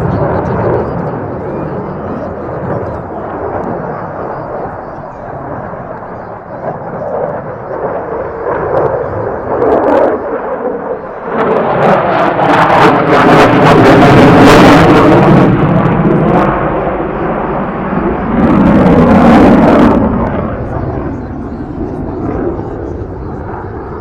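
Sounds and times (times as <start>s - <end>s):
aircraft flying past: 0.0s - 24.0s.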